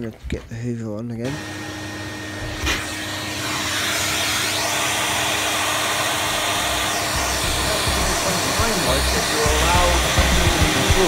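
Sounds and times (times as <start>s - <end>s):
vacuum cleaner humming: 1.2s - 11.0s.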